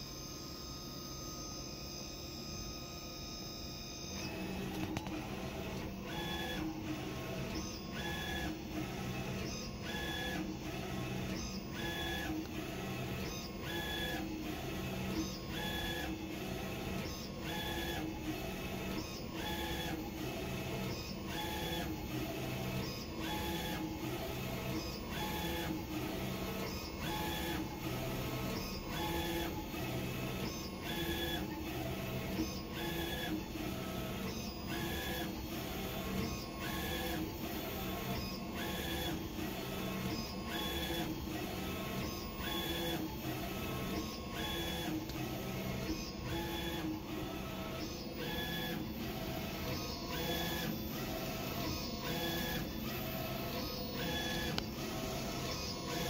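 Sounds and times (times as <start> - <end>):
printer carriage drive whine: 1.8 - 56.0
printer machine hum: 4.2 - 56.0.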